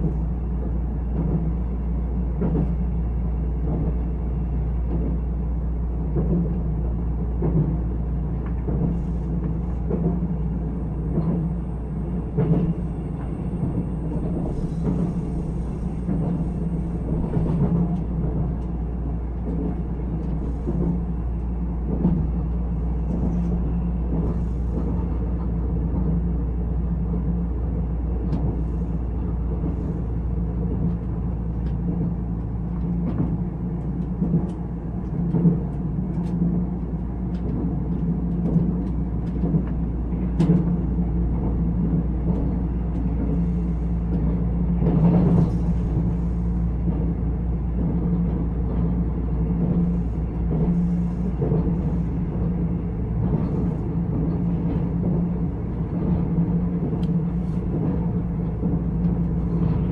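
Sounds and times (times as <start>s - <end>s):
low rumble of train wheels: 0.0s - 59.9s.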